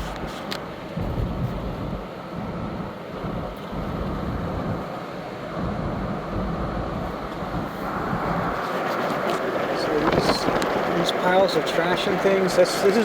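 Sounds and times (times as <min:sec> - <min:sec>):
wind noise on microphone: 0:00.0 - 0:11.3
car road and engine rumble: 0:00.0 - 0:13.0.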